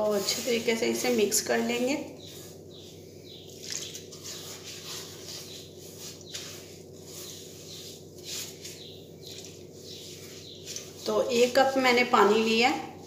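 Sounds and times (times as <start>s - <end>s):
spatula scraping pan: 0.0s - 12.0s
birds chirping: 0.0s - 13.0s.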